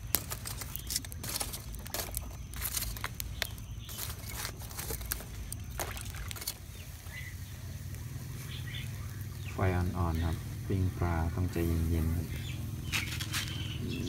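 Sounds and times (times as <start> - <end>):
charcoal crackling and popping: 0.0 - 13.8
low steady rumble: 2.4 - 14.0.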